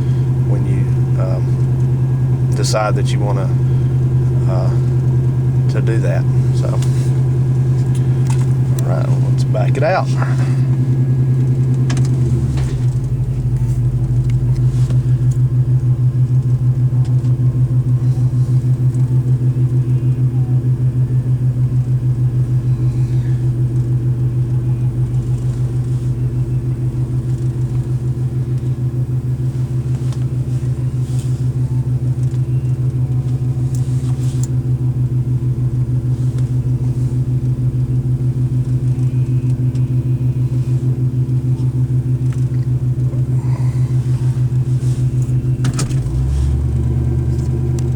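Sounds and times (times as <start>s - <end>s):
deeper engine drone: 0.0s - 47.9s
loud engine idling: 0.0s - 47.9s.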